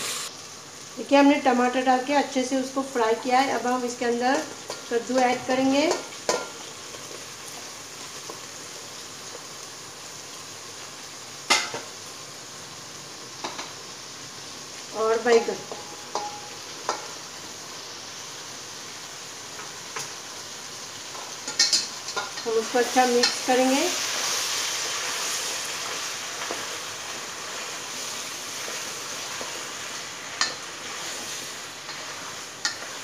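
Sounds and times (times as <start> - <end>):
vegetables sizzling in oil: 0.0 - 33.0.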